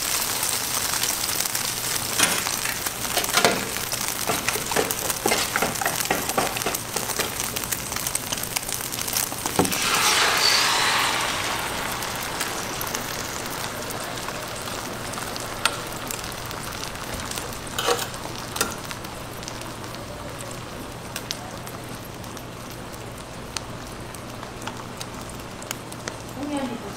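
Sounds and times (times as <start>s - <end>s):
batter sizzling on griddle: 0.0s - 26.9s.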